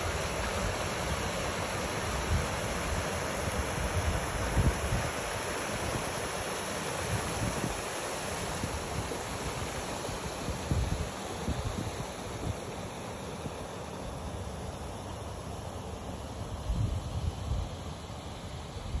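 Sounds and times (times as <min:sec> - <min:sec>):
creek water rushing over rocks: 0:00.0 - 0:16.7.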